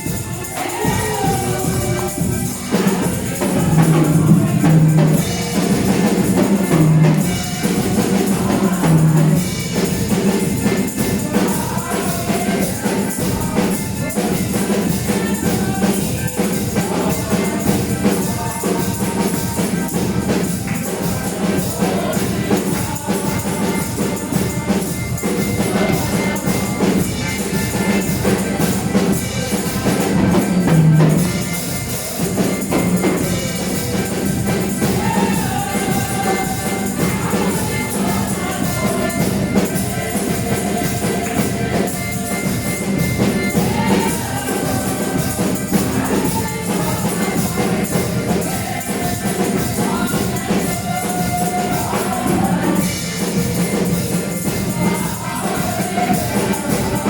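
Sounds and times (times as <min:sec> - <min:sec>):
band playing worship music: 0:00.0 - 0:57.0
drum kit: 0:00.0 - 0:57.0
tambourine: 0:00.0 - 0:57.0.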